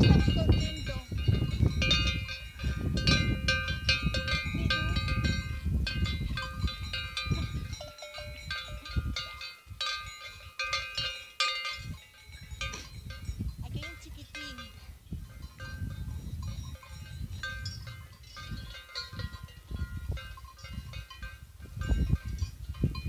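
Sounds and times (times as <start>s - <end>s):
livestock bells clanking: 0.0s - 23.0s.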